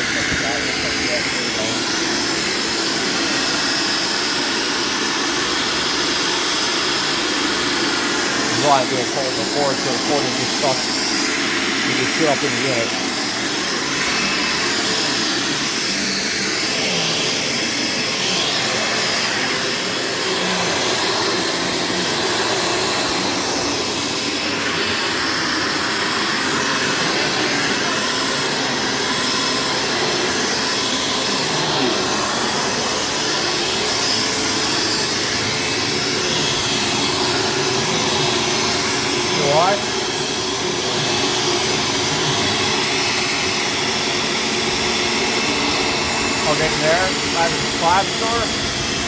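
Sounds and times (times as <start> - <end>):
vacuum cleaner motor whir: 0.0 - 49.0.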